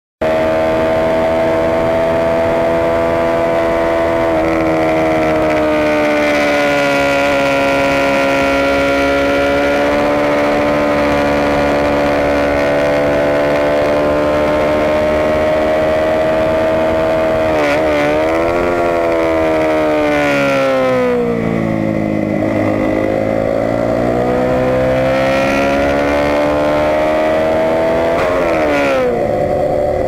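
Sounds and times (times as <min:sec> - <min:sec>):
motorcycle engine revving high: 0:00.2 - 0:30.0.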